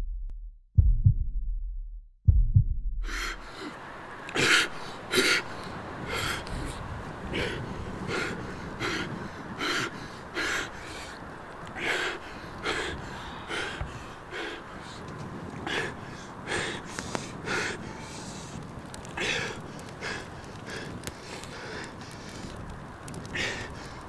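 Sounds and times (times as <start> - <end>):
man gasping breaths: 3.1 - 3.8, 4.4 - 22.6, 23.2 - 24.0.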